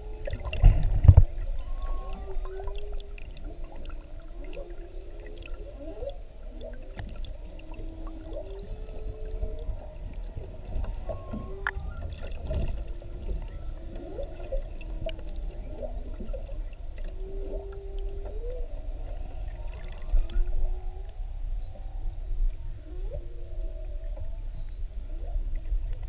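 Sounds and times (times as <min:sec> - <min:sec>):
low underwater rumble: 0:00.0 - 0:26.0
whale song moans: 0:00.0 - 0:26.0.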